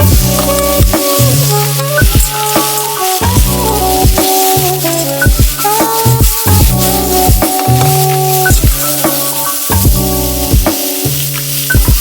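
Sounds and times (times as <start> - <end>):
bass line: 0.0 - 12.0
drum beat: 0.0 - 12.0
melody: 0.0 - 12.0.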